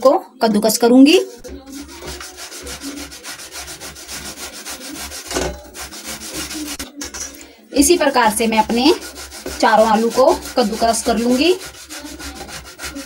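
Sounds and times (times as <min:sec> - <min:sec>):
potato grating on metal grater: 0:01.1 - 0:06.9, 0:07.8 - 0:13.0.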